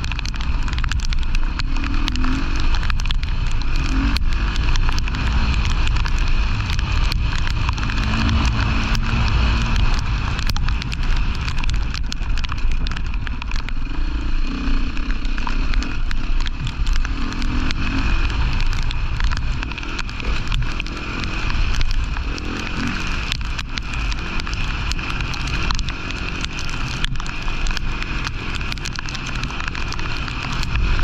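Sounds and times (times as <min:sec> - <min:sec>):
motorcycle engine revving: 0:00.0 - 0:31.0
sharp clicks and knocks: 0:00.0 - 0:31.0
wind rumble on microphone: 0:00.0 - 0:31.0.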